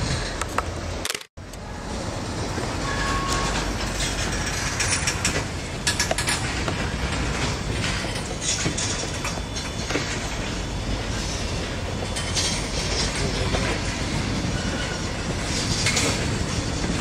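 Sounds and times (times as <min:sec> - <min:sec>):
train wheels rumbling on rail: 0:00.0 - 0:17.0
wheels clacking over rail joints: 0:00.0 - 0:17.0.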